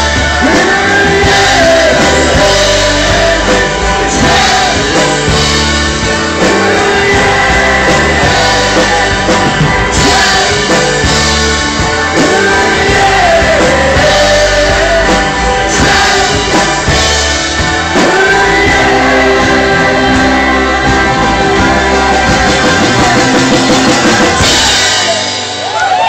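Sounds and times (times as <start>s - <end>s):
person singing: 0.0s - 25.8s
live rock band playing: 0.0s - 26.0s.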